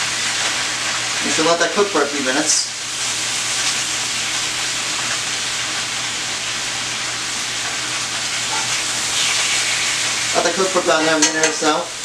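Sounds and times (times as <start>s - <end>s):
mushrooms sizzling in oil: 0.0s - 12.0s.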